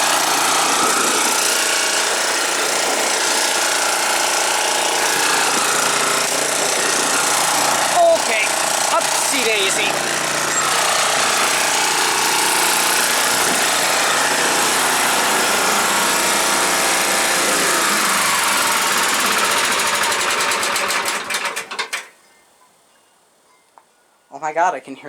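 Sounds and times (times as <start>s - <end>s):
lawn mower engine running: 0.0s - 22.1s.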